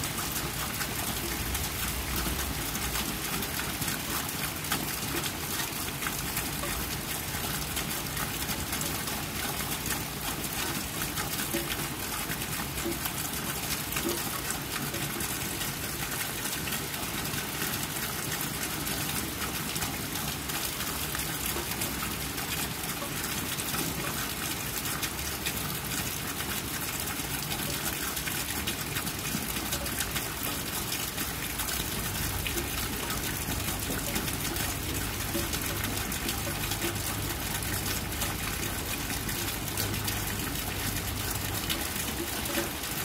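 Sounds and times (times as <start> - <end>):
rain falling on wet concrete: 0.0 - 43.0.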